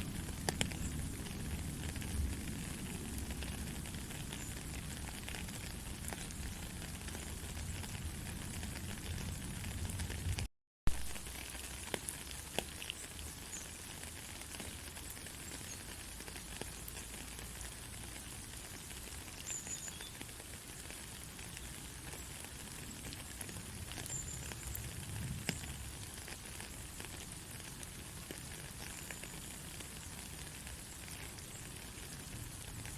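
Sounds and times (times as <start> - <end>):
gentle rain pattering: 0.0 - 32.9.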